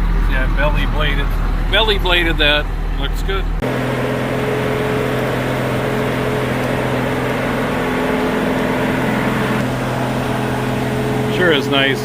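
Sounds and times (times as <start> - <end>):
truck engine running steadily: 0.0 - 12.0.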